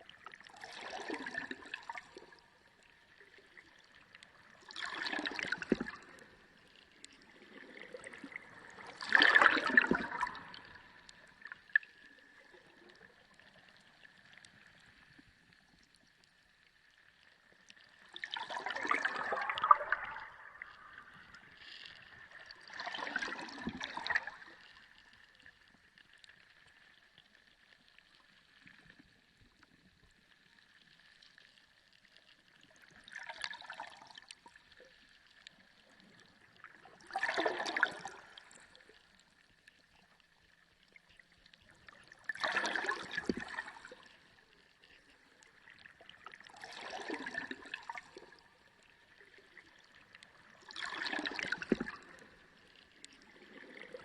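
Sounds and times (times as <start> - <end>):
underwater water gurgling: 0.0 - 54.0.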